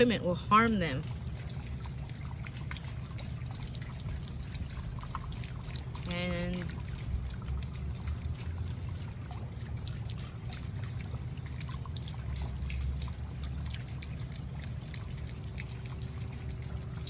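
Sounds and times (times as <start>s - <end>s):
water splashing into pond: 0.0s - 17.0s.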